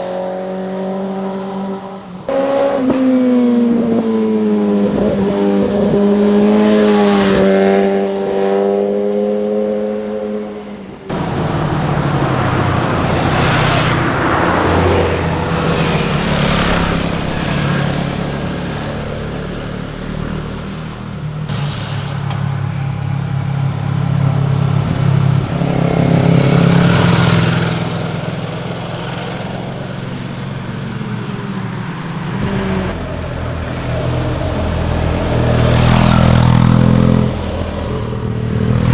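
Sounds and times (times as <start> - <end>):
motorcycle engines passing: 0.0 - 38.9.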